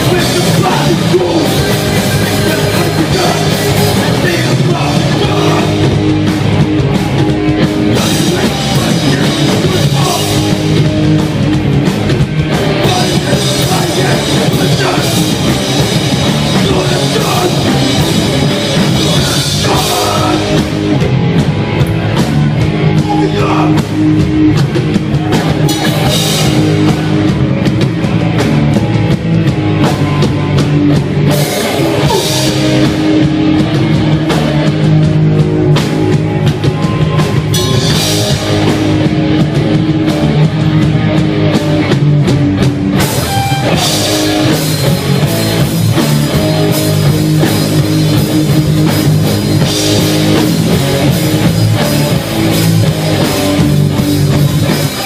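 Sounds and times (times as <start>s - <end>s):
bass guitar: 0.0s - 55.0s
distorted electric guitars: 0.0s - 55.0s
drum kit pounding: 0.0s - 55.0s.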